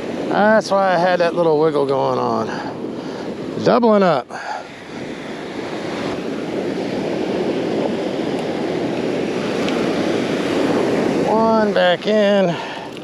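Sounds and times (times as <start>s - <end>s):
surf washing up on beach: 0.0s - 13.0s.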